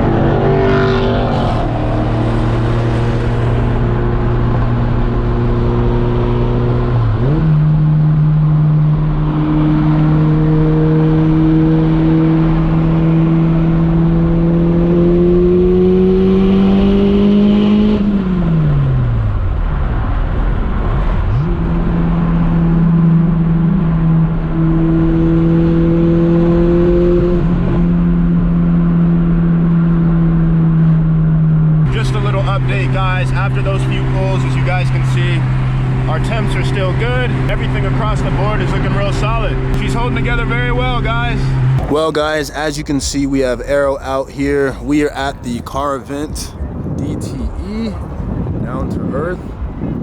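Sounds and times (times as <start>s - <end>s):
car engine revving high: 0.0s - 31.2s, 31.8s - 48.0s.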